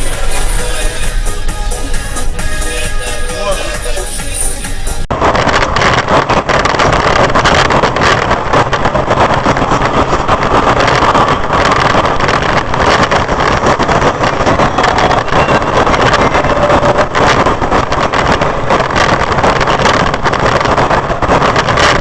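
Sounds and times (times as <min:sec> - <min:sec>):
car road and wind rumble: 0:00.0 - 0:22.0.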